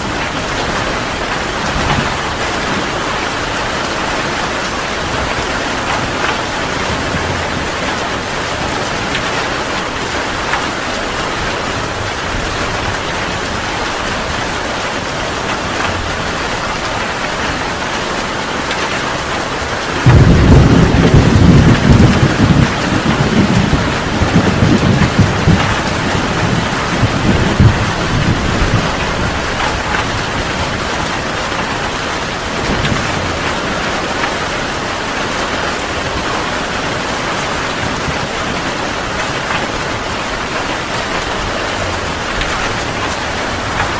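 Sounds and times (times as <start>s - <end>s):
thunder clap and rumble: 0.0s - 17.9s, 19.7s - 43.9s
heavy rain: 0.0s - 43.9s.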